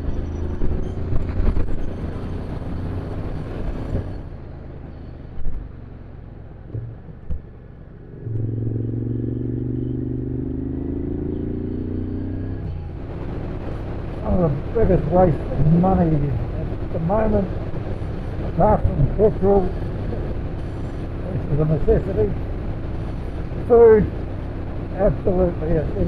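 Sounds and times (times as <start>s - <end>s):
motorcycle engine running: 4.5s - 26.0s.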